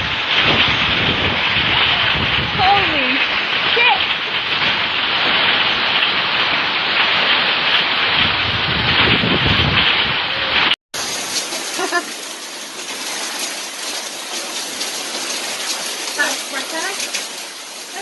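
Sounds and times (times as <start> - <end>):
heavy rain: 0.0 - 18.0
rushing water: 0.0 - 18.0
thin wash of water: 0.0 - 18.0.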